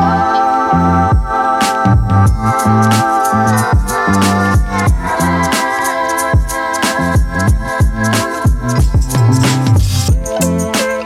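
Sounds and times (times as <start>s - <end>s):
hip-hop beat music: 0.0s - 11.0s.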